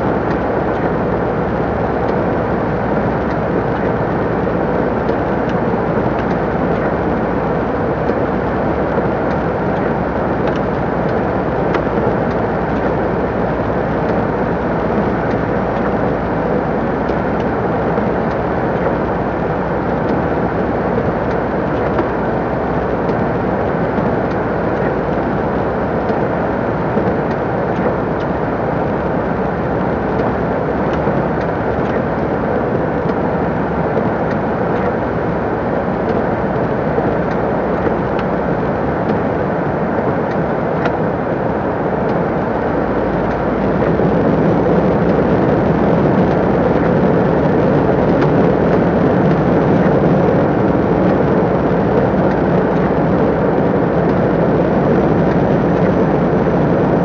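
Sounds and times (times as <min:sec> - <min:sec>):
lorry engine and road noise drone: 0:00.0 - 0:57.0.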